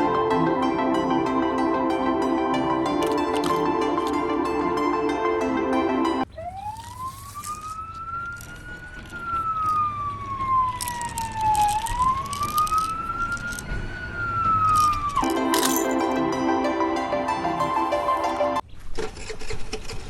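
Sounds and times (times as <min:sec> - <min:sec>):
wailing siren: 0:00.0 - 0:18.6.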